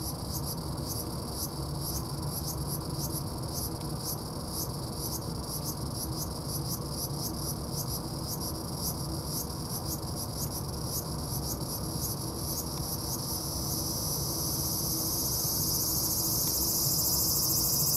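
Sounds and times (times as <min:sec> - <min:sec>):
cicadas buzzing: 0:00.0 - 0:17.9.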